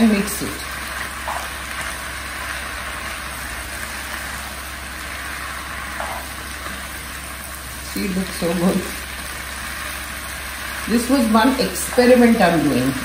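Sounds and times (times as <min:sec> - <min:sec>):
noodles sizzling in a wok: 0:00.0 - 0:13.0.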